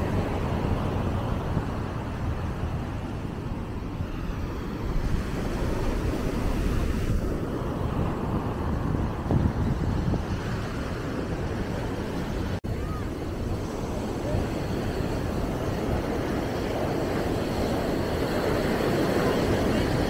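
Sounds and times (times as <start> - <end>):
surf washing onto beach: 0.0 - 20.0
wind rumbling on microphone: 0.0 - 20.0.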